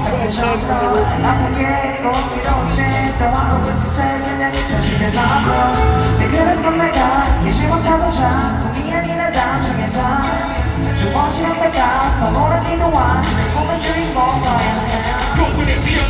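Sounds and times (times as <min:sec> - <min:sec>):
male group singing pop song: 0:00.0 - 0:16.0.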